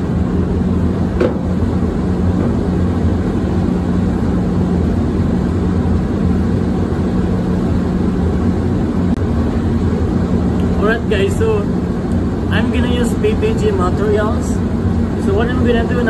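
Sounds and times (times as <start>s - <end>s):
ventilation fans humming: 0.0s - 16.0s.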